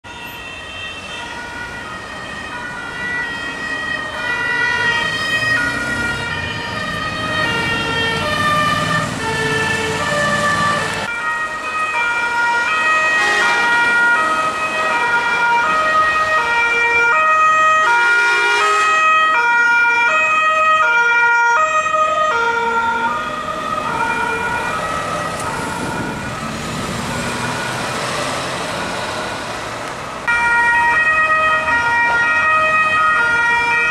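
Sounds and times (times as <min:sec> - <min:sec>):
two-tone emergency sirens: 0:00.0 - 0:33.9
vehicle engines passing: 0:00.1 - 0:33.9.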